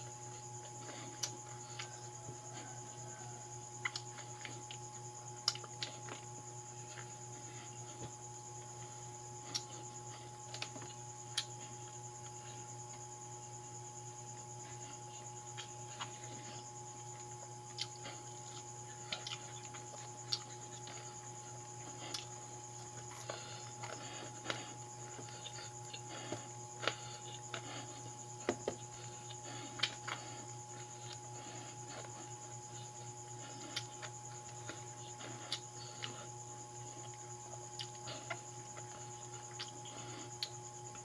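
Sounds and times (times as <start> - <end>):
chewing and mouth smacks: 0.0 - 3.0, 3.8 - 13.0, 14.4 - 41.0
steady low hum: 0.0 - 41.0.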